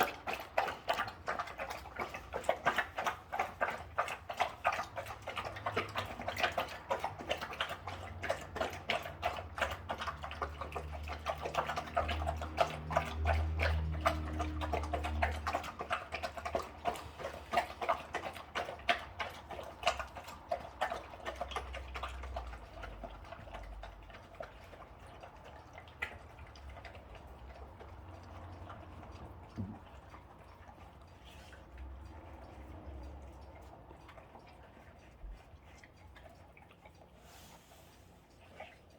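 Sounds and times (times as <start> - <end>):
dogs crunching food: 0.0 - 38.9.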